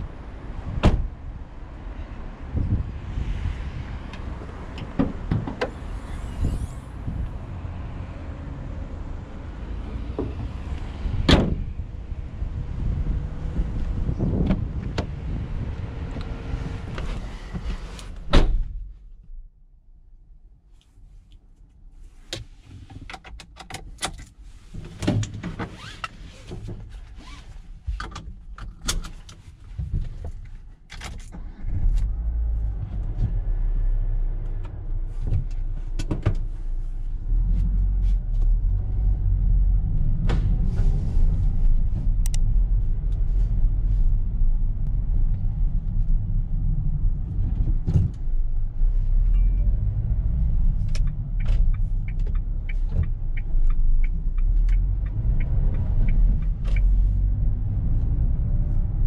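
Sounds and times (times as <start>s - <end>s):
car engine starting and running: 0.0s - 20.4s, 30.3s - 59.0s.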